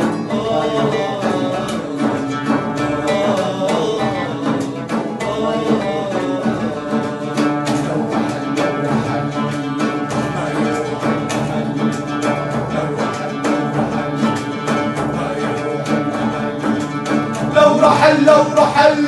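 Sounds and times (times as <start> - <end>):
classical guitar: 0.0 - 19.0
frame drum: 0.0 - 19.0
men singing: 0.0 - 19.0
oud: 0.0 - 19.0.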